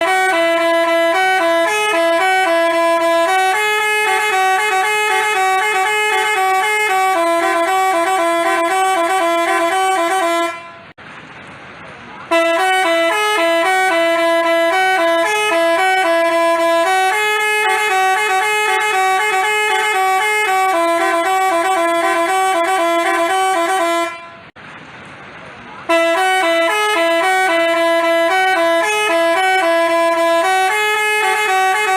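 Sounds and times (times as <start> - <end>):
bus horn playing a melody: 0.0 - 11.0, 12.3 - 24.6, 25.9 - 31.9.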